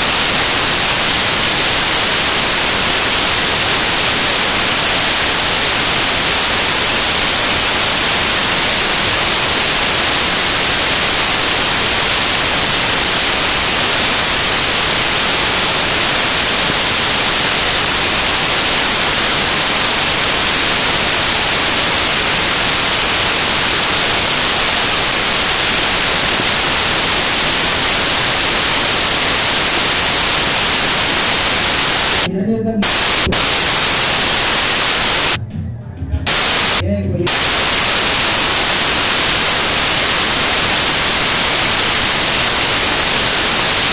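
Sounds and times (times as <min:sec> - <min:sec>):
static hiss: 0:00.0 - 0:35.4, 0:36.2 - 0:43.9.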